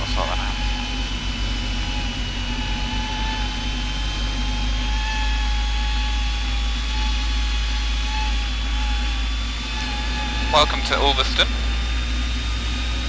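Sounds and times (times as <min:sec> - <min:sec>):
airplane engine droning in cabin: 0:00.0 - 0:13.0.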